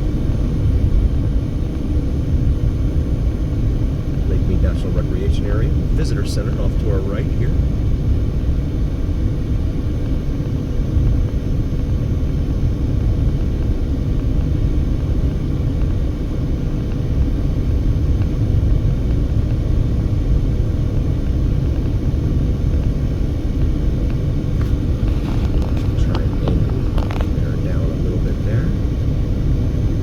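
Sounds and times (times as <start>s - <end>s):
car road and engine rumble: 0.0s - 30.0s
faint steady hum: 0.0s - 30.0s.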